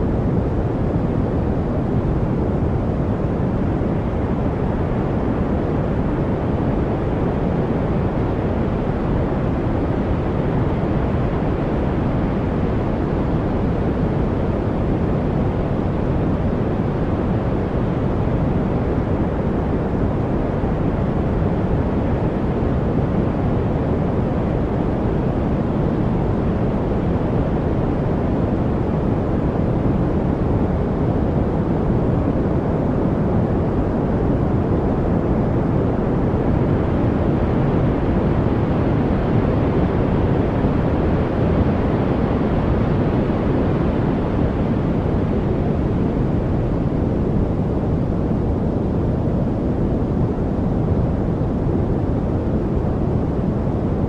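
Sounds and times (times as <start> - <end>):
low white noise rush: 0.0 - 54.0.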